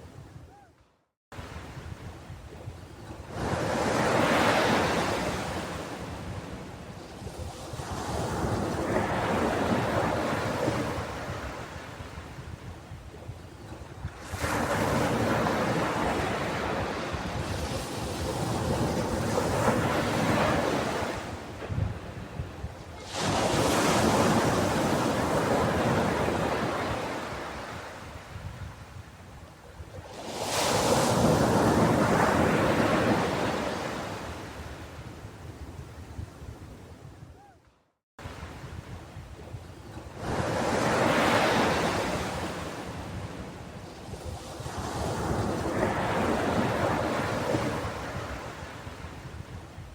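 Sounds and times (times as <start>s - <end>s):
ocean waves breaking on beach: 1.4s - 37.2s, 38.2s - 49.9s.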